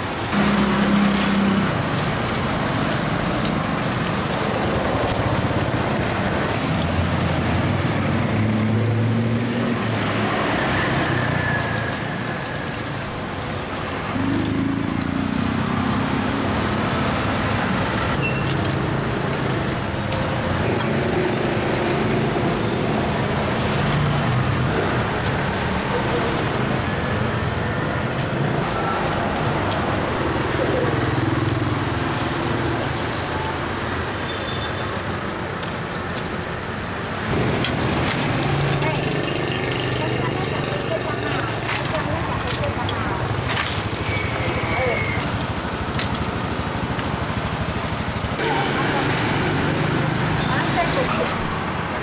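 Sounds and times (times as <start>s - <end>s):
vehicle engines passing: 0.0s - 52.0s.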